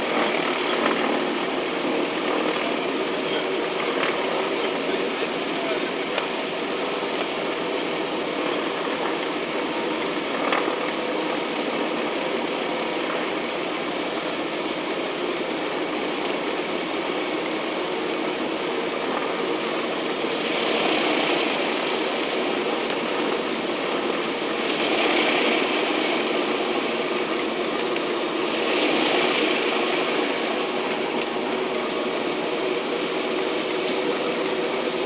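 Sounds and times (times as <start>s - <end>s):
piston aircraft engines droning: 0.0s - 35.0s.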